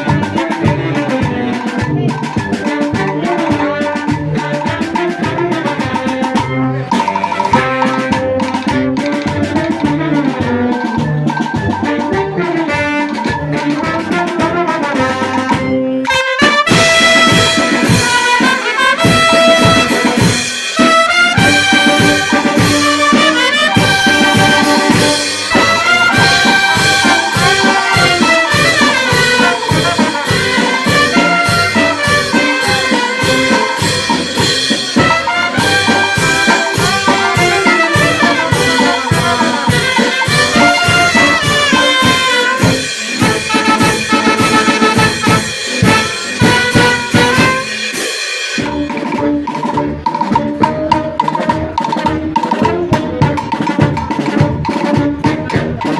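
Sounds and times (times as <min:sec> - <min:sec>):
brass band playing: 0:00.0 - 0:55.9.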